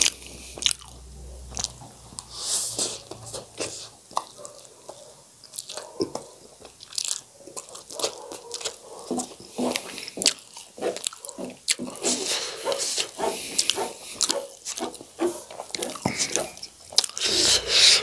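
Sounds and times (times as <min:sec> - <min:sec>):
noodles slurped and chewed: 0:00.0 - 0:18.0.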